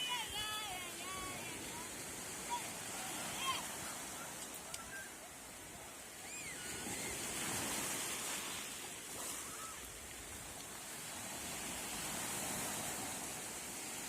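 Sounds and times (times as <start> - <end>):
sea waves washing onto shore: 0.0 - 14.0.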